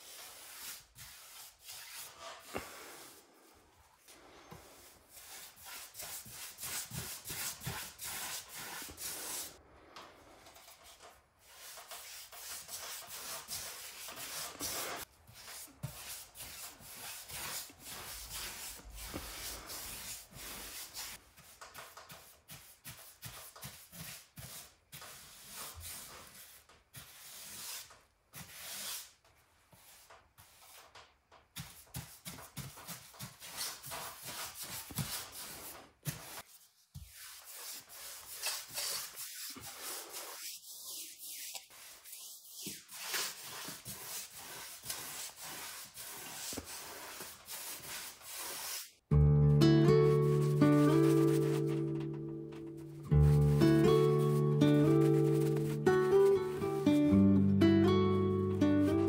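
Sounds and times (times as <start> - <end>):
paintbrush scrubbing wooden boards: 0.0 - 3.2, 4.2 - 9.6, 10.6 - 27.9, 31.6 - 49.0, 49.9 - 57.0.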